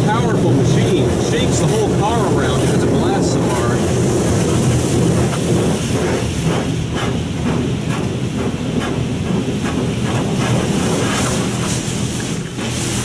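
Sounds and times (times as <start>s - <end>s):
low steady hum: 0.0s - 13.0s
water spraying on car: 0.0s - 13.0s.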